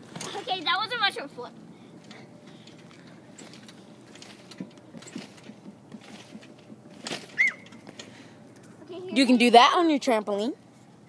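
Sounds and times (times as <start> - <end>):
trampoline thumps and creaks: 0.0 - 10.2.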